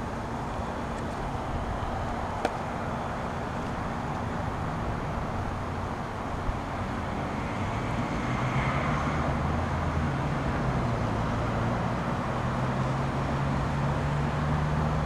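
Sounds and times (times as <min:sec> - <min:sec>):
road traffic passing: 0:00.0 - 0:15.0
vehicle engine hum passing by: 0:00.0 - 0:15.0.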